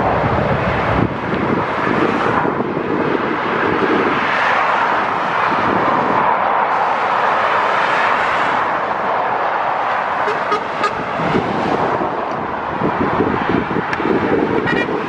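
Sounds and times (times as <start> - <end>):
road traffic roar: 0.0 - 15.0.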